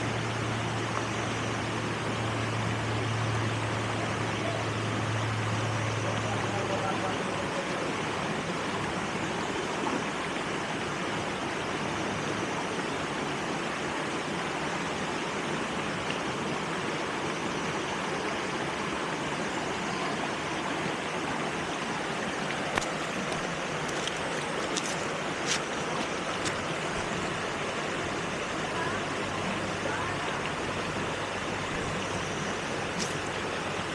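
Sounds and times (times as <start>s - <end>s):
waterfall and stream rushing: 0.0s - 33.9s.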